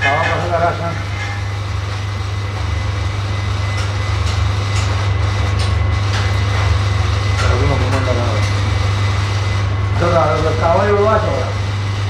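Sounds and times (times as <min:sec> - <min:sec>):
workshop machine humming: 0:00.0 - 0:12.0.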